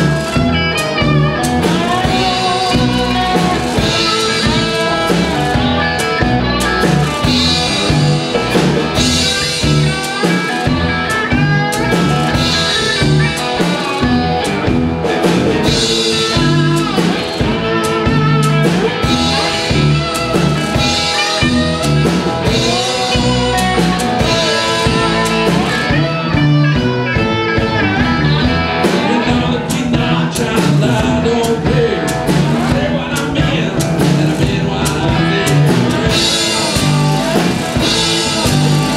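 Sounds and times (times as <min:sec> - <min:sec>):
drum kit: 0:00.0 - 0:38.9
other guitars: 0:00.0 - 0:38.9
slide guitar: 0:00.0 - 0:38.9.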